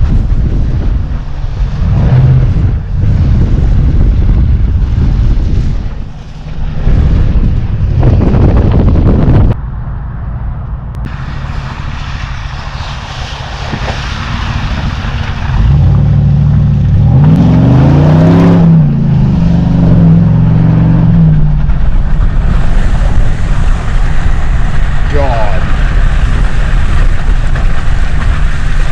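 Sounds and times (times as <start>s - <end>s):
truck engine revving under load: 1.7s - 9.6s, 13.6s - 28.9s.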